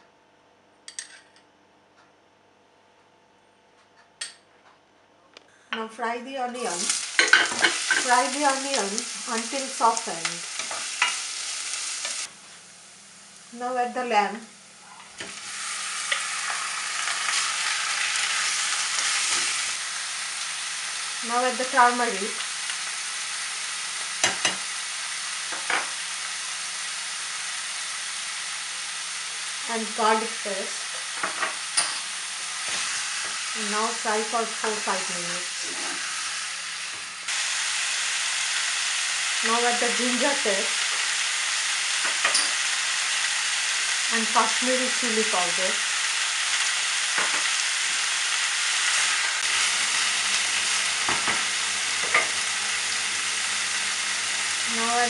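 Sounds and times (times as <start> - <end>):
meat and onions sizzling in oil: 6.5 - 55.0.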